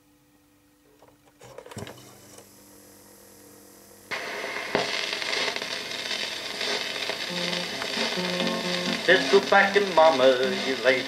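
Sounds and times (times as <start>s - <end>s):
vinyl surface crackle and hiss: 1.4s - 2.6s, 3.3s - 11.0s.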